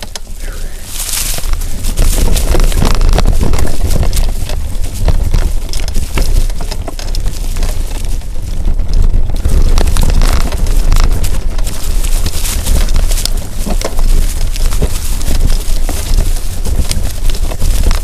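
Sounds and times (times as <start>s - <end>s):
mountain bike rattling over rocks: 0.0s - 18.0s
wind rumbling on microphone: 0.0s - 18.0s.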